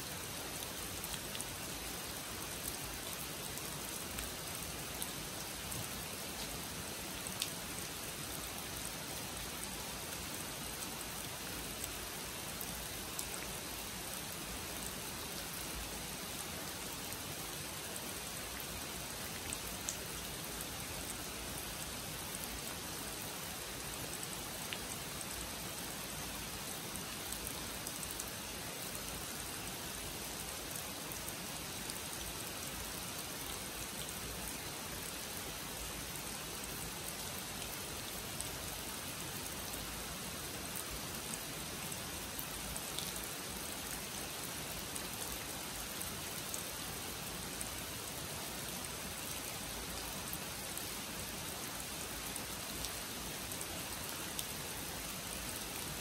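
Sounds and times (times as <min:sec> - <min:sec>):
rain falling on pond and trees: 0:00.0 - 0:56.0.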